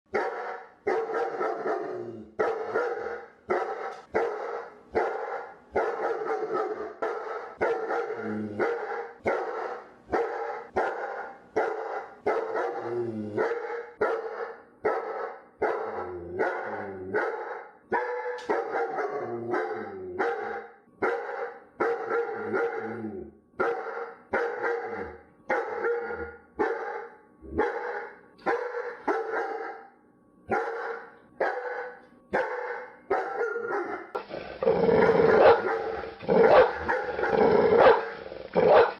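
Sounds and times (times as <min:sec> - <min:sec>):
dog barking: 0:00.1 - 0:23.0, 0:23.6 - 0:34.3, 0:35.2 - 0:38.9.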